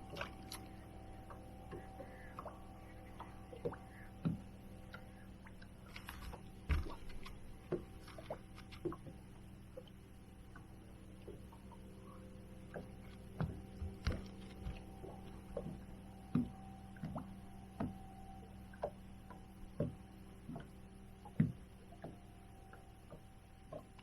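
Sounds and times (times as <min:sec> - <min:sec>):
steady low hum: 0:00.0 - 0:24.0
waves lapping against boat hull: 0:00.0 - 0:24.0.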